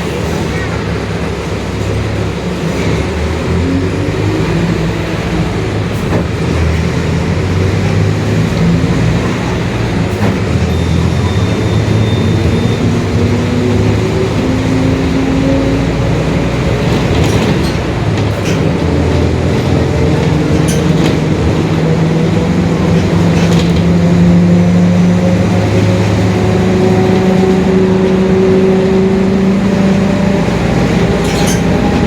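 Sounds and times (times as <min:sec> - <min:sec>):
bus diesel engine under load: 0:00.0 - 0:32.0.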